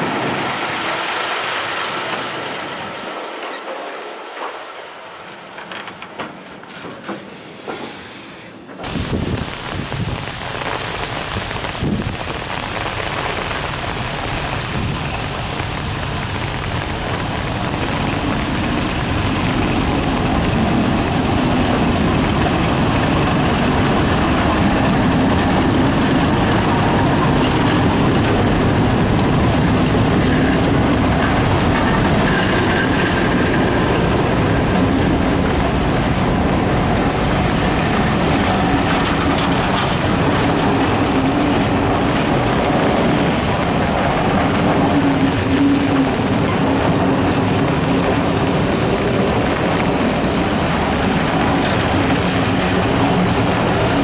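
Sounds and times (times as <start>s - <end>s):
wheels clattering over rail joints: 0.0s - 8.0s, 13.1s - 54.0s
diesel locomotive engines running: 0.0s - 54.0s.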